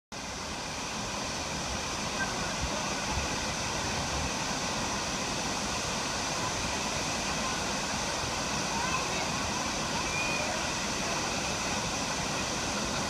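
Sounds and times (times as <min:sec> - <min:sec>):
waterfall roaring: 0:00.2 - 0:13.0.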